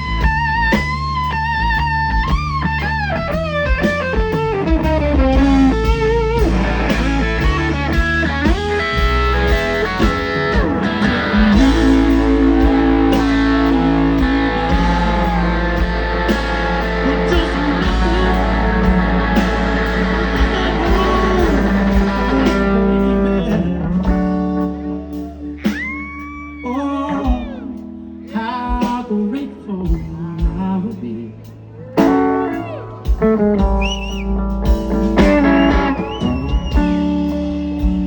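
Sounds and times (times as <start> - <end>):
electric guitar lead: 0.0 - 28.4, 31.6 - 38.0
bass guitar: 0.0 - 38.0
drums: 0.0 - 38.0.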